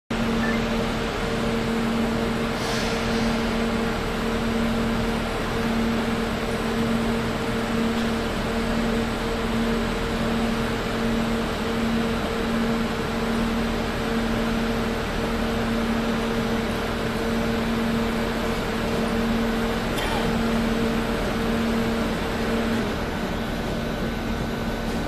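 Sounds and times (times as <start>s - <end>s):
electric locomotive hum: 0.1s - 25.0s
train rumble: 0.2s - 25.0s.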